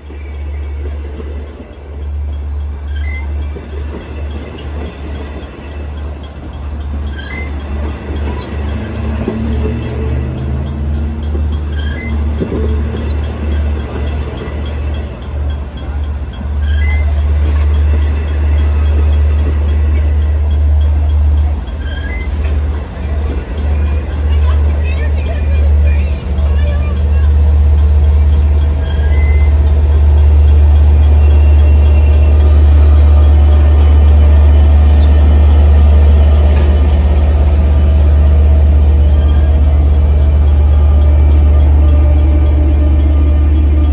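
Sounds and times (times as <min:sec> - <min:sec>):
diesel train rumbling past: 0:00.0 - 0:43.9
high squeaks: 0:02.8 - 0:05.4, 0:07.1 - 0:15.0, 0:16.6 - 0:43.9.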